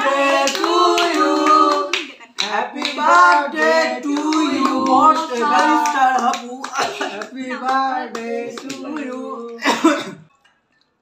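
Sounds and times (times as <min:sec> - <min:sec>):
people singing: 0:00.0 - 0:09.8
hand claps: 0:00.1 - 0:09.6.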